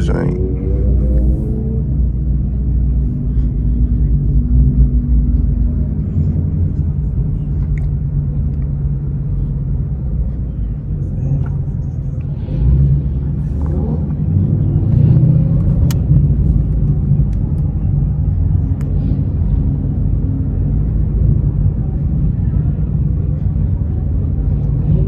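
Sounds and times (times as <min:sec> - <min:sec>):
car engine at low speed: 0:00.0 - 0:25.0.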